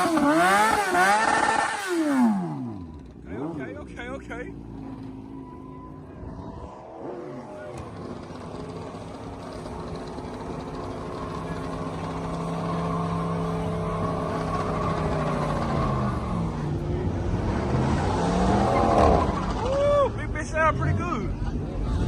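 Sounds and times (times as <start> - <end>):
car engine revving: 0.0 - 19.7.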